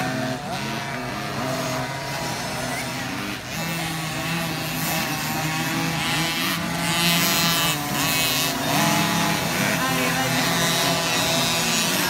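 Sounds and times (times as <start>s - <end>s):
two-stroke dirt bikes revving: 0.0s - 12.0s.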